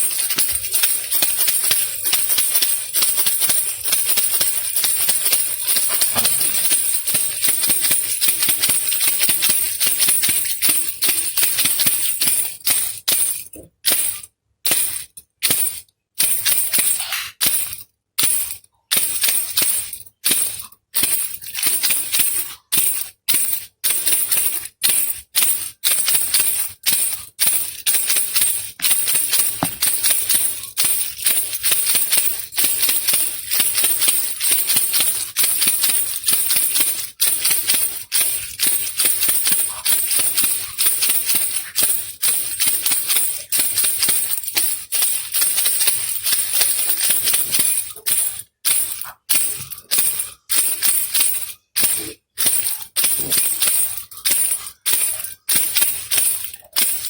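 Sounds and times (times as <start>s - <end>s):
baby rattle shaken: 0.0s - 57.0s.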